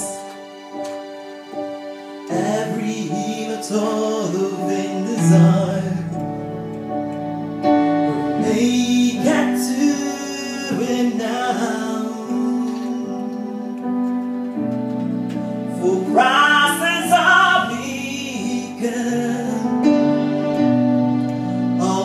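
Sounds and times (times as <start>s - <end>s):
sustained instrumental chords: 0.0s - 12.4s, 13.0s - 22.0s
person singing: 2.2s - 7.0s, 8.0s - 14.9s, 15.6s - 22.0s.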